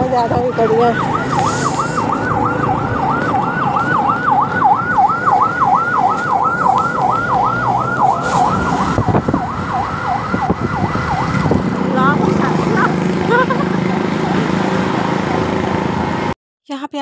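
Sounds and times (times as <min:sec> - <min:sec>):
ambulance siren yelping: 0:00.0 - 0:15.5
low road rumble: 0:00.0 - 0:16.4.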